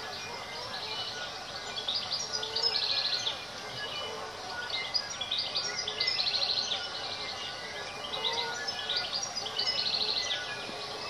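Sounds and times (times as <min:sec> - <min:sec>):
bellbirds singing: 0:00.0 - 0:11.0.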